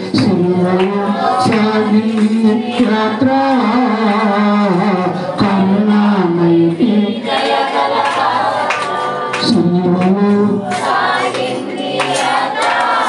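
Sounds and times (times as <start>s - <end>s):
man singing devotional song: 0.0s - 8.0s, 8.6s - 12.7s.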